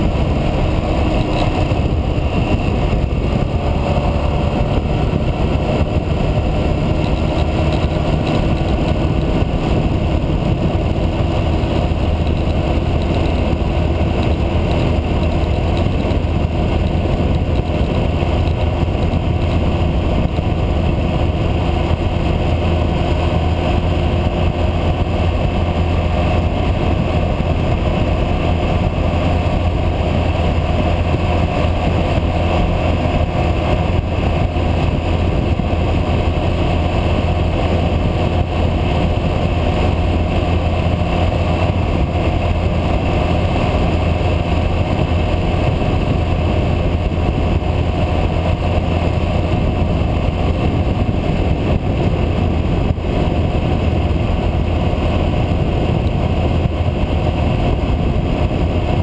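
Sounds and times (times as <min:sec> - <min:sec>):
motorcycle engine cruising: 0:00.0 - 0:59.0
wind rushing over microphone: 0:00.0 - 0:59.0.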